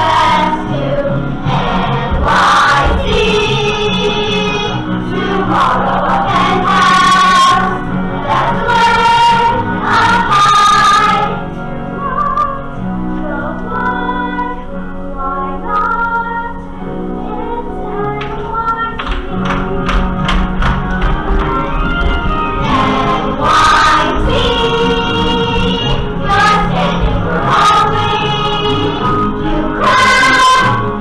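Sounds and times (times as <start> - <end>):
choir singing: 0.0 - 18.9, 21.4 - 31.0
musical accompaniment: 0.0 - 31.0.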